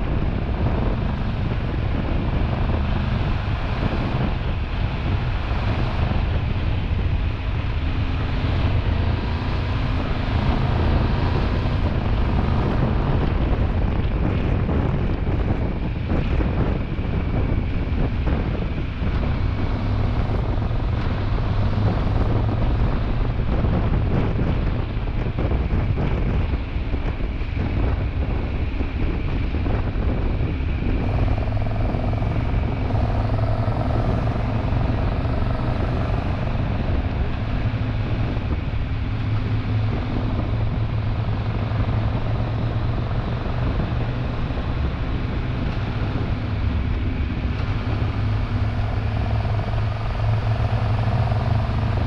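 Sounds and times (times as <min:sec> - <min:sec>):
motorcycle engine droning: 0:00.0 - 0:52.0
wind noise rushing: 0:00.0 - 0:52.0.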